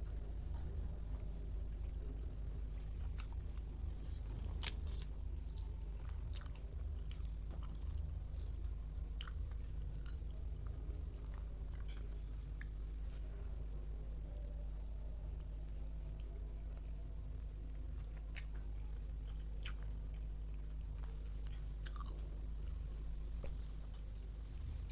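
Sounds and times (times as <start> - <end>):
steady low hum: 0.0 - 24.9
close chewing mouth sounds: 0.1 - 13.6, 15.3 - 24.9.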